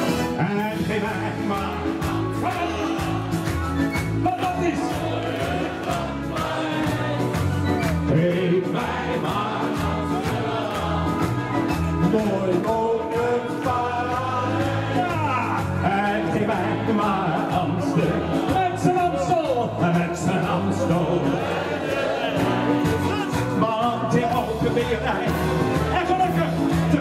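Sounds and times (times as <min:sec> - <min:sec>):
many voices singing along: 0:01.1 - 0:23.5.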